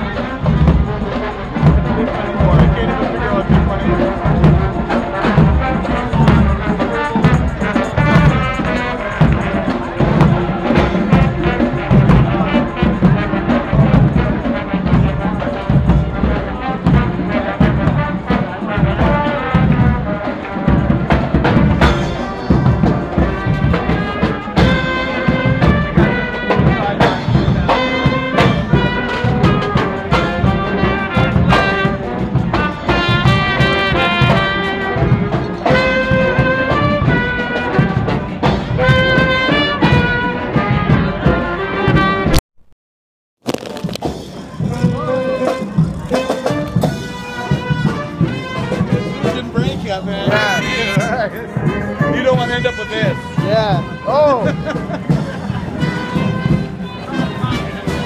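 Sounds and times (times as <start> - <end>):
brass band playing: 0.0 - 42.4, 43.5 - 58.0
steady drum beat: 0.0 - 42.4, 43.5 - 58.0.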